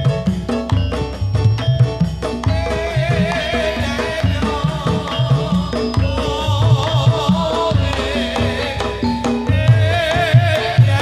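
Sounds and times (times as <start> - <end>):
barrel drum beat: 0.0 - 11.0
frame drums: 0.0 - 11.0
keyboard: 0.0 - 11.0
wavering melody line: 0.0 - 11.0.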